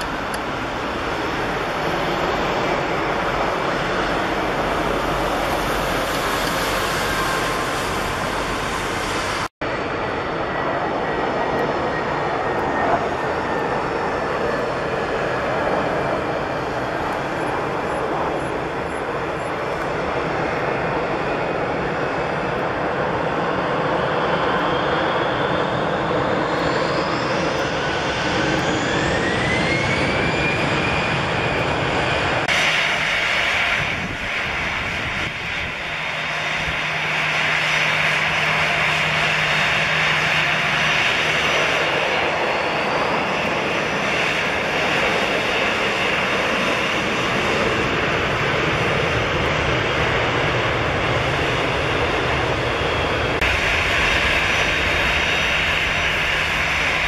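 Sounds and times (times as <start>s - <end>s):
jet engines whine rising: 0.0s - 57.0s
jet engines whining while taxiing: 0.0s - 57.0s.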